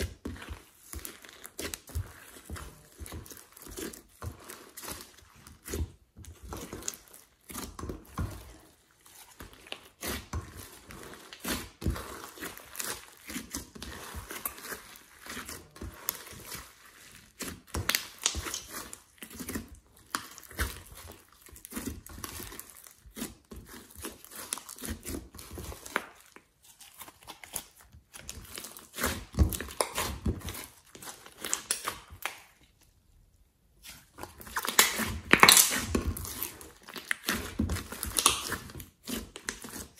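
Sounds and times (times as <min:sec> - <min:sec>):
slime squished by hand: 0:00.0 - 0:32.8, 0:33.8 - 0:39.9.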